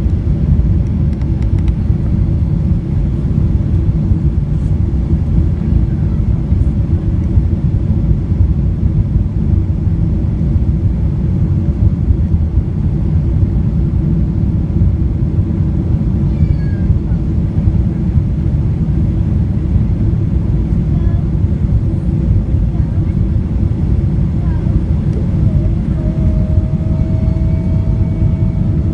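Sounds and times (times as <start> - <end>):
aircraft cabin engine rumble: 0.0 - 28.9.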